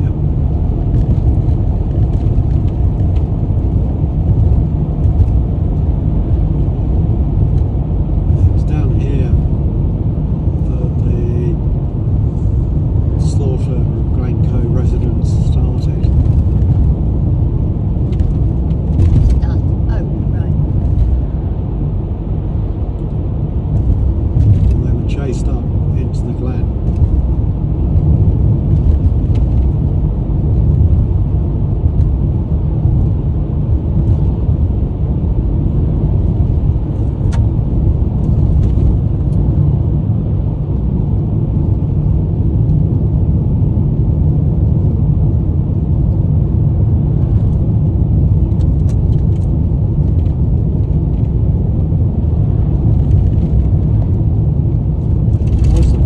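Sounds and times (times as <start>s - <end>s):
car rumble from inside cabin: 0.0s - 56.0s.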